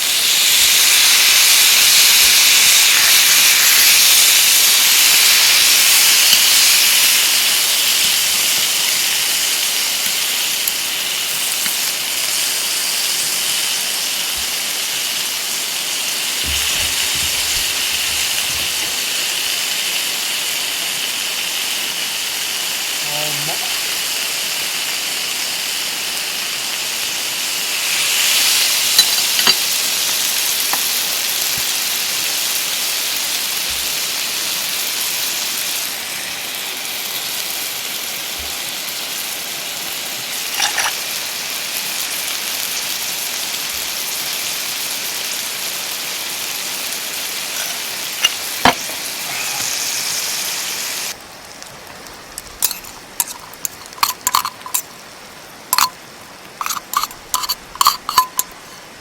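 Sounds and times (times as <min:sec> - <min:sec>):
steak sizzling on griddle: 0:00.0 - 0:59.0.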